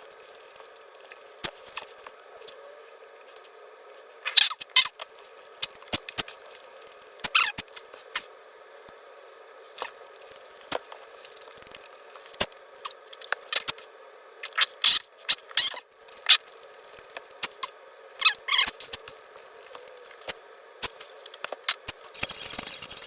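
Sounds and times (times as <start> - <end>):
crackly rustles: 0.0 - 14.6, 15.2 - 23.0.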